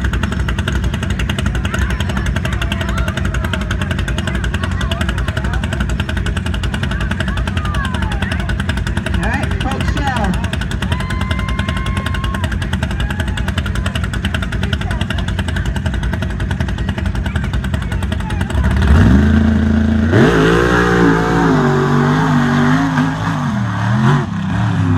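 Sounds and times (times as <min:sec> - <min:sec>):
truck engine revving: 0:00.0 - 0:24.9
tyres churning through mud: 0:00.0 - 0:24.9.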